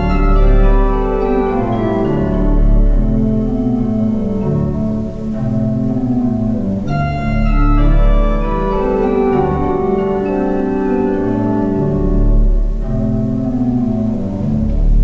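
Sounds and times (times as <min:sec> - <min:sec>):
deep organ pedal notes: 0:00.0 - 0:15.0
organ chords: 0:00.0 - 0:15.0.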